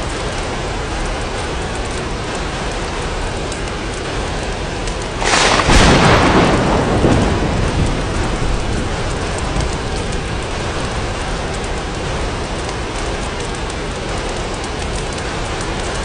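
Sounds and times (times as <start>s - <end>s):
rain falling on glass: 0.0s - 16.0s
thunder clap rumbling: 0.0s - 16.0s.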